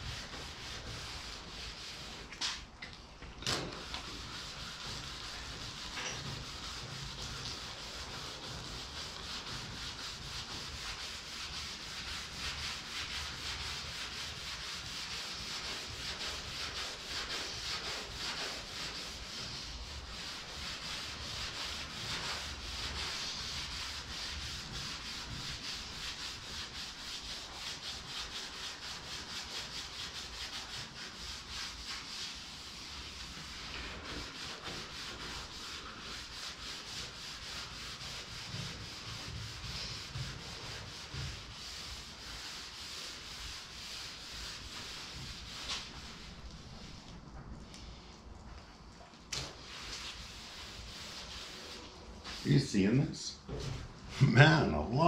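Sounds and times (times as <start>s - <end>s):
hand scrubbing wet painted surface: 0.0s - 55.0s.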